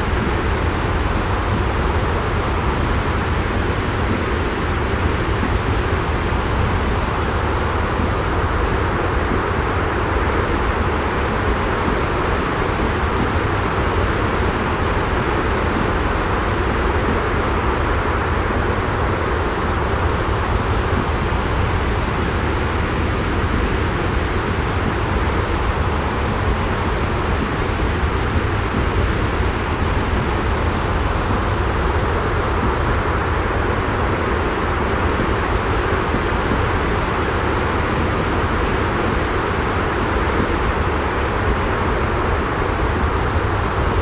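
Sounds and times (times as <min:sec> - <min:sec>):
white noise with low rumble: 0:00.0 - 0:44.0.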